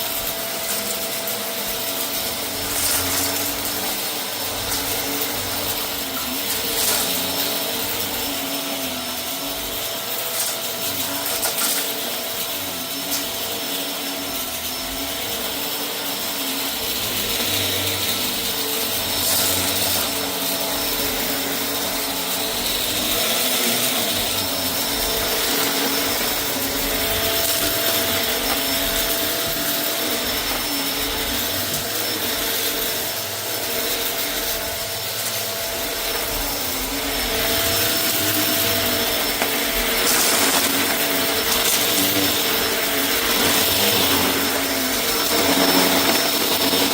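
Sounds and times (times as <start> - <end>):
debris clicking in vacuum: 0.0 - 46.9
vacuum cleaner running: 0.0 - 46.9.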